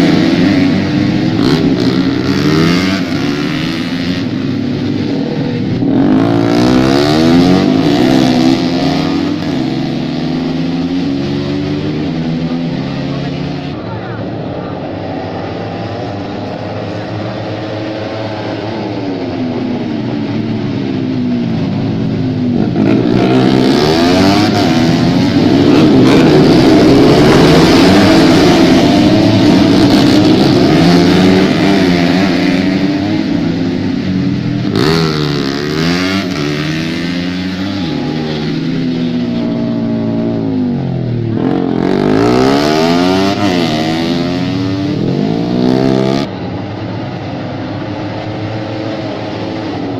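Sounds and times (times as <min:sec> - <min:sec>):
racing motorcycles passing: 0:00.0 - 0:49.9.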